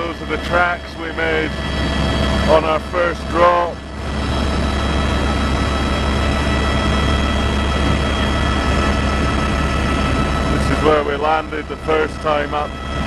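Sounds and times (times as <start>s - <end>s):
helicopter engine and rotor drone: 0.0s - 13.0s
helicopter turbine whine: 0.0s - 13.0s.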